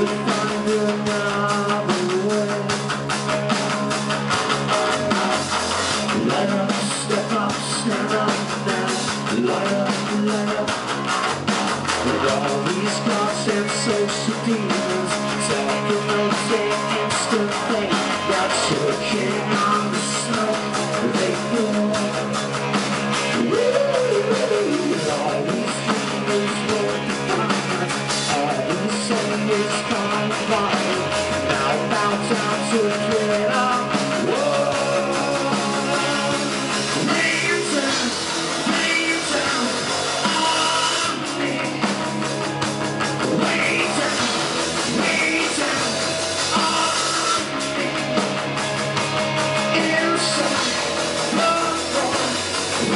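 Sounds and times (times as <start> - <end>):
man singing into microphone: 0.0 - 2.8, 6.1 - 10.8, 12.0 - 22.4, 23.4 - 42.1, 43.2 - 48.2, 49.7 - 52.9
drum kit beat: 0.0 - 52.9
electric guitar: 0.0 - 52.9.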